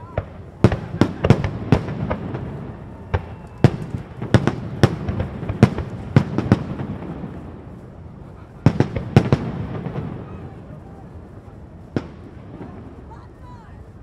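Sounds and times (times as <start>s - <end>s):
fireworks bangs: 0.0s - 14.0s
steady background noise: 0.0s - 14.0s.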